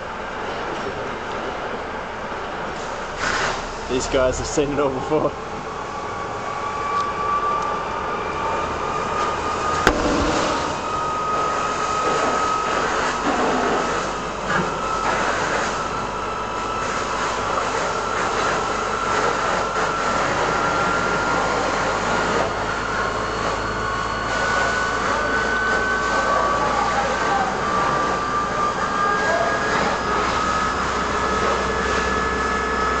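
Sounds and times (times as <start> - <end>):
pump drone with high whine: 0.0 - 33.0.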